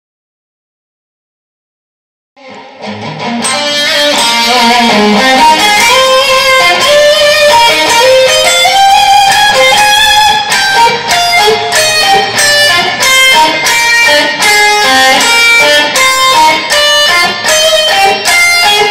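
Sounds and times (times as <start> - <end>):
electric guitar music: 2.4 - 18.9.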